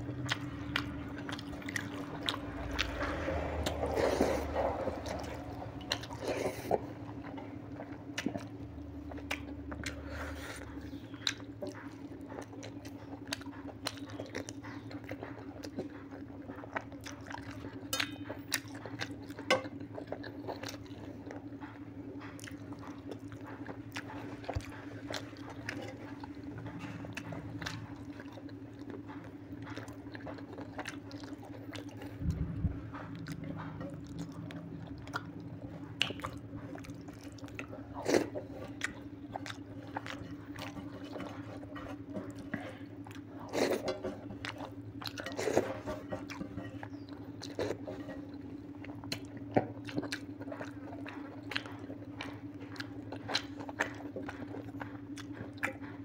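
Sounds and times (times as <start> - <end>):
man chewing food: 0.0 - 56.0
steady low hum: 0.0 - 56.0.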